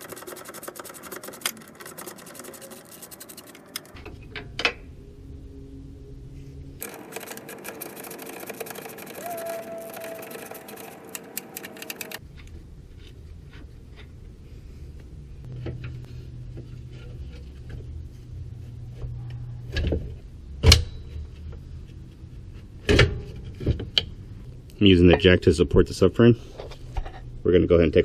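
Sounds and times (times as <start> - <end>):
low steady hum: 3.8 - 28.0.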